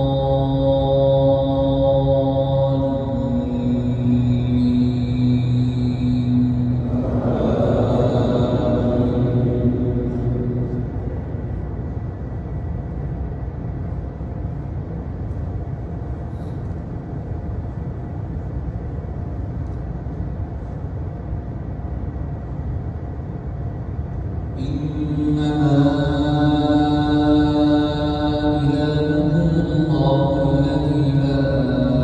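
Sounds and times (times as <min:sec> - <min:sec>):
faint hum: 0:00.0 - 0:32.0
fans and ventilation rumbling: 0:00.0 - 0:32.0.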